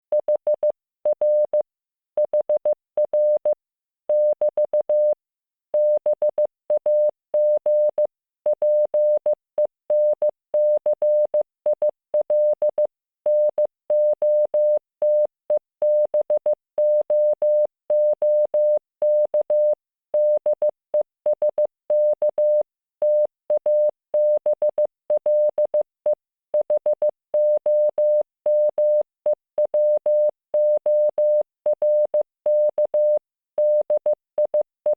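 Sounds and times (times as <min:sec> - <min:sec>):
morse code beeps: 0:00.1 - 0:01.6, 0:02.2 - 0:05.2, 0:05.8 - 0:20.7, 0:21.3 - 0:25.8, 0:26.6 - 0:29.0, 0:29.6 - 0:34.9.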